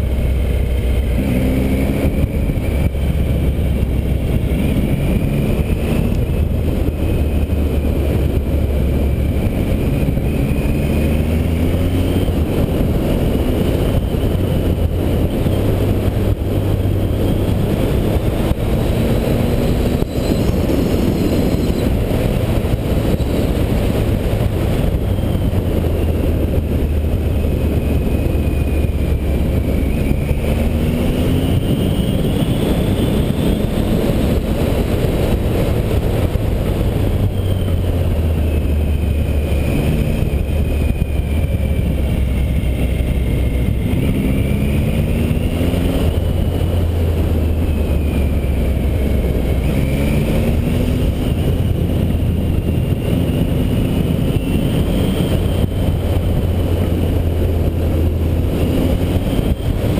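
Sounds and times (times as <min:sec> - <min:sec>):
motorcycle engine revving: 0:00.0 - 0:59.9
wind rumble on microphone: 0:00.0 - 0:59.9.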